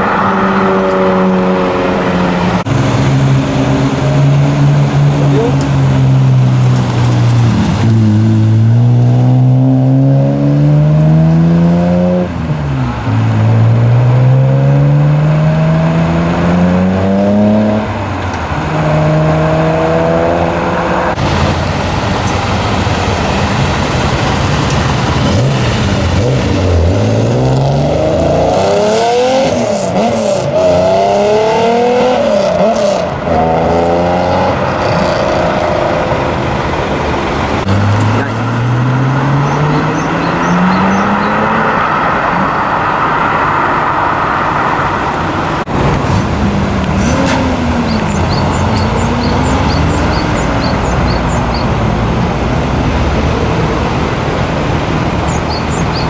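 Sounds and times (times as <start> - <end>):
engine revving up and down: 0.0 - 12.3, 13.3 - 18.0, 18.6 - 51.7
car engine accelerating hard: 0.0 - 56.0.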